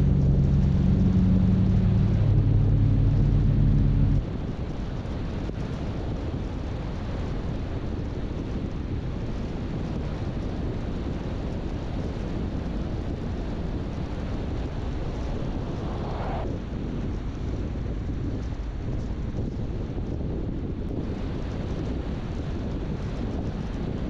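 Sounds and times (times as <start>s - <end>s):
car road and wind noise: 0.0s - 24.0s.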